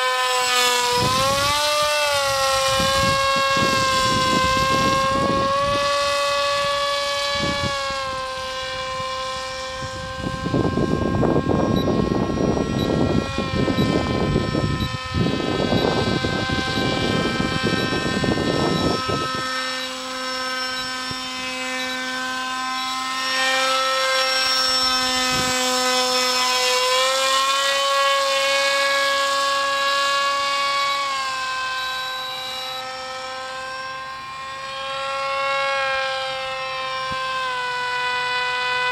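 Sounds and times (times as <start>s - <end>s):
paraglider engine droning: 0.0s - 38.9s
wind rumble on microphone: 0.7s - 31.7s, 34.8s - 38.9s.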